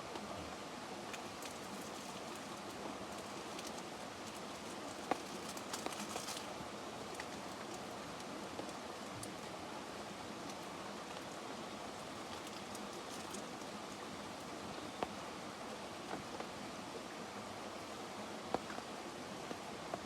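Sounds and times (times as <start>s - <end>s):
steady rain in a forest: 0.0s - 20.0s.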